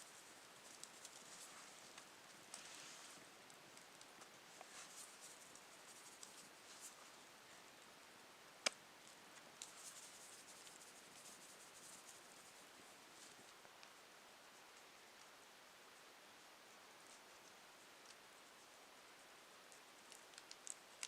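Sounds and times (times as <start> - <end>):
faint scratching and ticking: 0.0 - 21.0.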